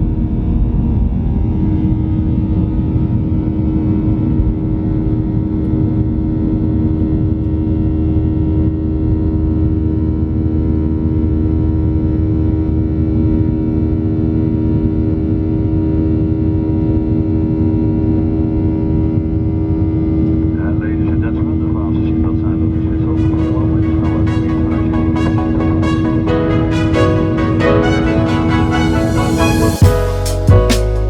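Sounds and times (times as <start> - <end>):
jet engines heard from cabin: 0.0 - 26.4.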